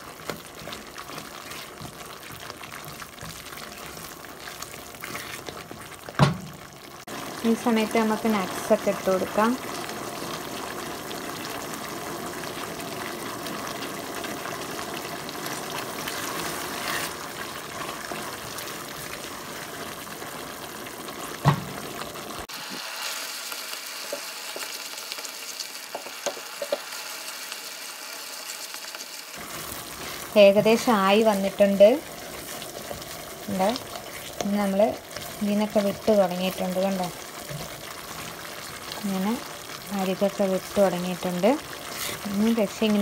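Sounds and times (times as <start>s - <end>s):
thick mixture bubbling and sizzling: 0.0s - 43.0s.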